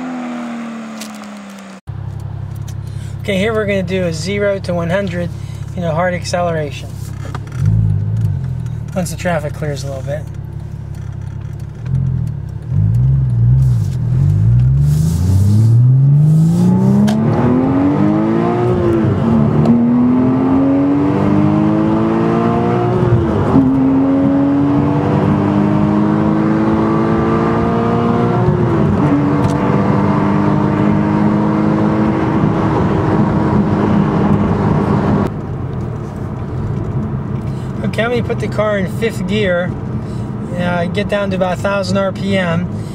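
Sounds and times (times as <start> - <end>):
car engine accelerating hard: 0.0 - 1.8, 7.1 - 42.9.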